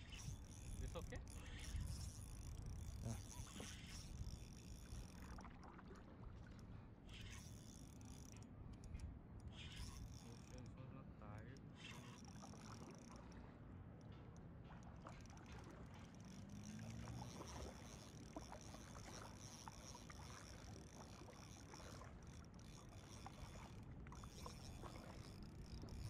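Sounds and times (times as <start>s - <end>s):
small ticks: 0.0s - 5.4s, 7.1s - 10.8s, 11.4s - 13.4s, 14.0s - 26.0s
water lapping against kayak hull: 0.0s - 10.8s, 11.6s - 26.0s.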